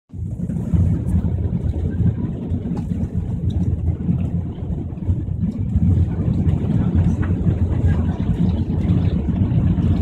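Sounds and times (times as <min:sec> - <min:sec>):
aircraft engines rumbling on takeoff: 0:00.1 - 0:10.0.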